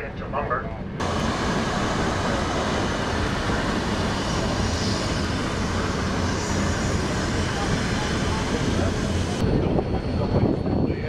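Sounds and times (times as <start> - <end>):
train wheels rumbling on track: 0.8 - 11.0.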